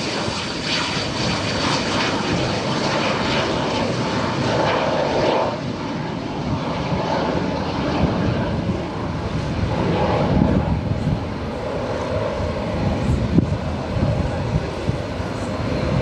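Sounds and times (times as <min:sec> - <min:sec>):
aircraft engines rumbling: 0:00.0 - 0:16.0.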